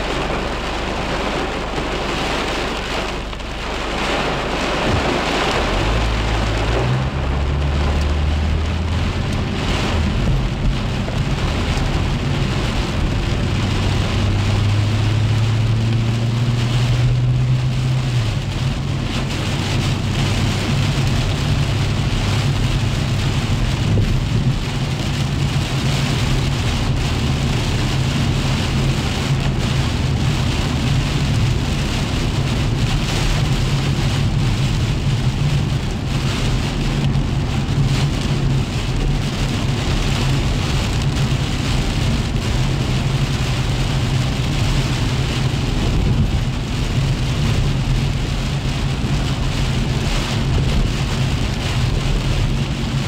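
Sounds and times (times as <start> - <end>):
engine and tyre rumble: 0.0 - 53.0
heavy rain on car roof: 0.0 - 53.0.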